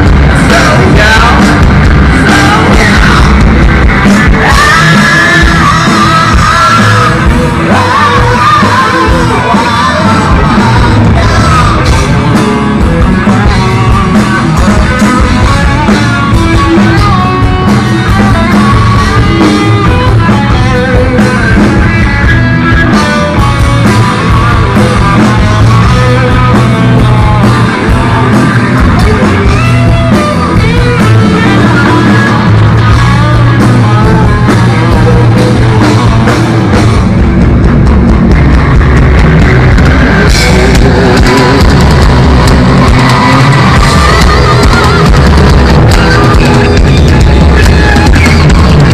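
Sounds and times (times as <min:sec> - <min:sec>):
person singing: 0:00.0 - 0:37.0, 0:39.6 - 0:48.9
bass guitar: 0:00.0 - 0:48.9
drums: 0:00.0 - 0:48.9
electric guitars: 0:00.0 - 0:48.9.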